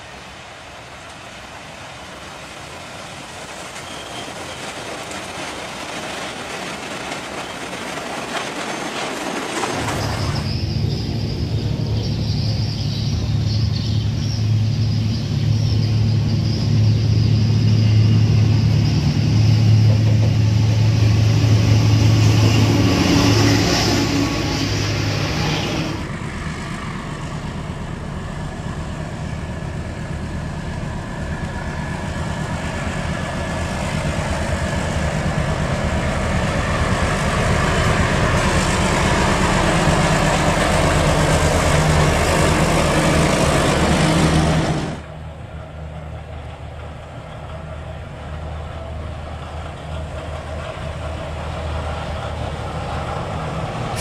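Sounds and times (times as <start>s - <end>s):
diesel locomotive engine hum: 0.0s - 54.0s
diesel locomotive hauling coaches: 0.0s - 54.0s.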